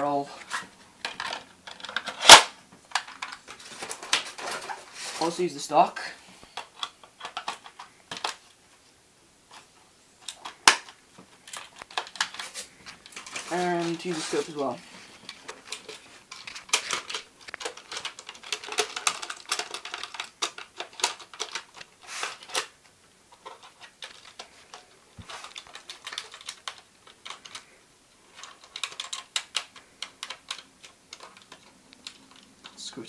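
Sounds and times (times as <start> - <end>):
plastic clicks and rattles: 1.0 - 4.8, 6.5 - 8.5, 9.5 - 14.3, 15.2 - 27.7, 28.3 - 32.8.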